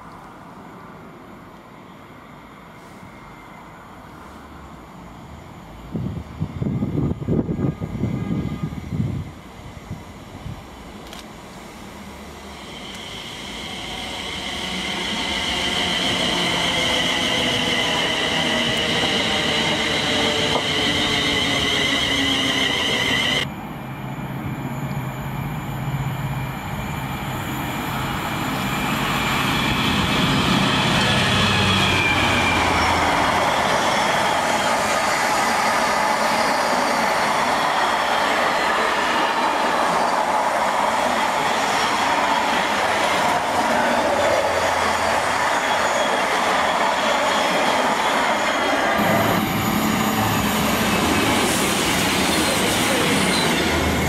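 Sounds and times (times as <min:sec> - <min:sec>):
diesel locomotive engine: 0:00.0 - 0:54.0
electric train high whine: 0:00.0 - 0:54.0.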